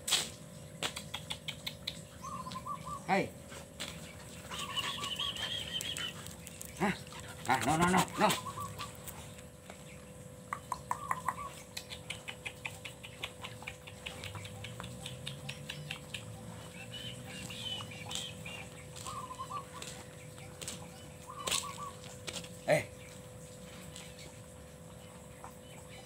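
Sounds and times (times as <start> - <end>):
fast patter of ticks: 0.8 - 2.6, 3.8 - 26.0
chickens clucking: 0.8 - 26.0.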